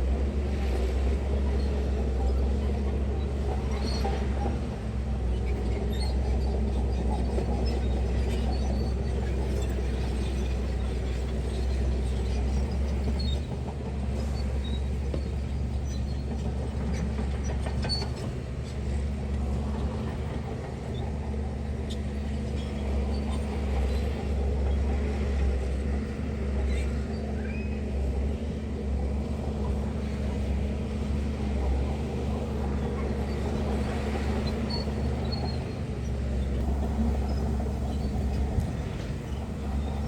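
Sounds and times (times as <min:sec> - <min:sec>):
heavy diesel engine droning: 0:00.0 - 0:40.0.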